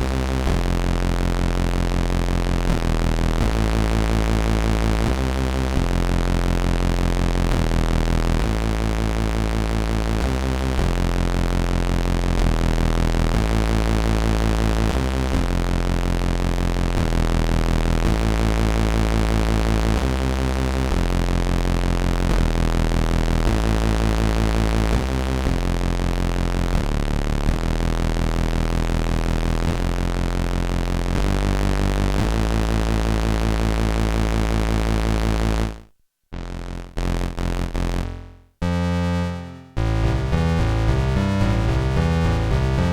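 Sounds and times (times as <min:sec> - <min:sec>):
synthesizer bass sequence: 0:00.0 - 0:35.7, 0:36.4 - 0:42.9.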